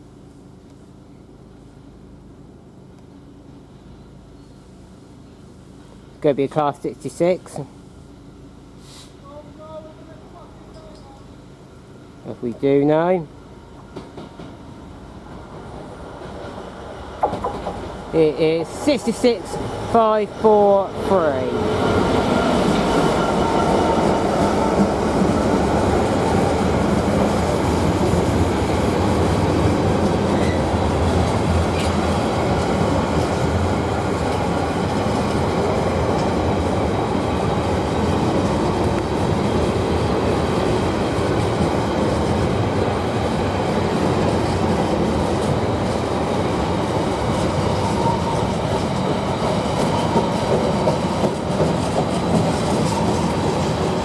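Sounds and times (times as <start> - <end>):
freight train rolling past: 0.0 - 54.0
wheels rumbling on rails: 9.4 - 54.0.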